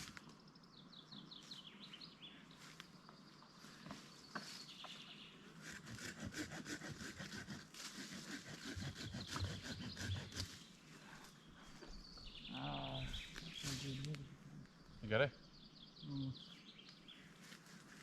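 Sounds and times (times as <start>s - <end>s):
birds singing: 0.0s - 7.0s, 8.4s - 18.0s.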